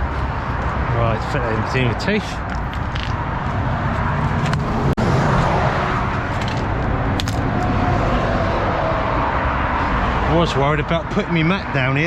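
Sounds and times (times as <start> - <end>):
motorway traffic: 0.0 - 12.0.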